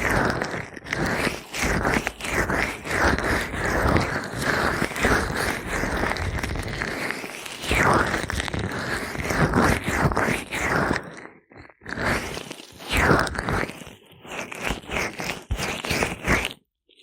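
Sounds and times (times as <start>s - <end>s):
gloved fingers rubbing microphone: 0.0s - 16.7s.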